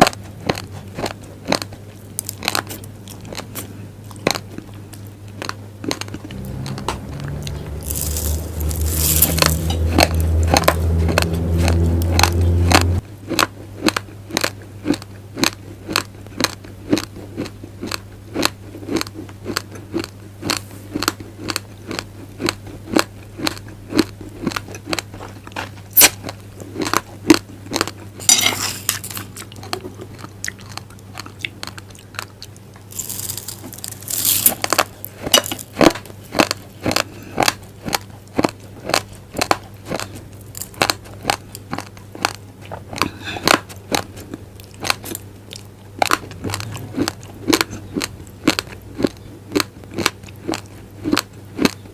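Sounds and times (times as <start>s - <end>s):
low steady hum: 0.0s - 51.9s
raw rice crunching and chewing: 0.0s - 51.9s.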